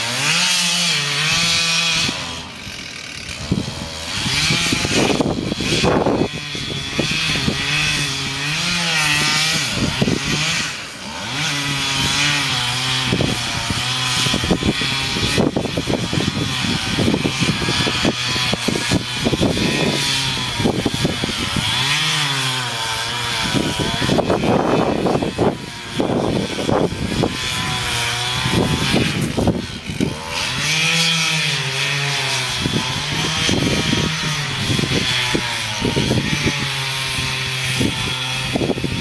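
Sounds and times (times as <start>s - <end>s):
chainsaw cutting tree trunk: 0.0s - 39.0s.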